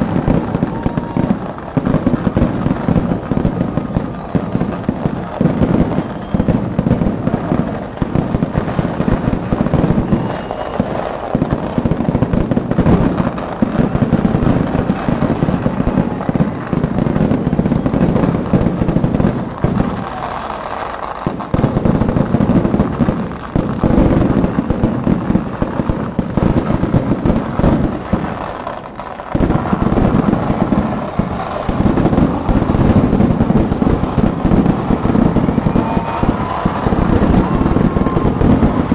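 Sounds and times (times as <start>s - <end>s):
firecrackers and aerial shells: 0.0s - 38.9s.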